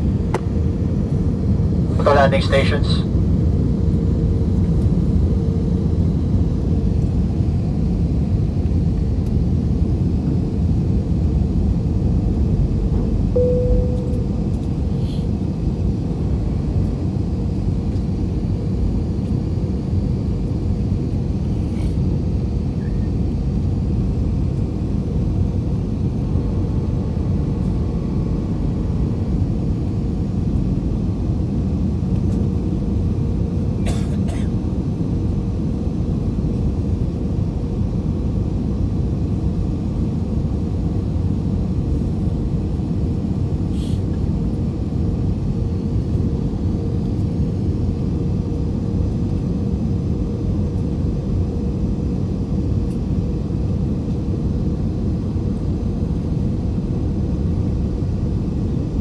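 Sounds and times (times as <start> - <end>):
airliner engine and airflow rumble: 0.0 - 59.0
faint steady hum: 0.0 - 59.0.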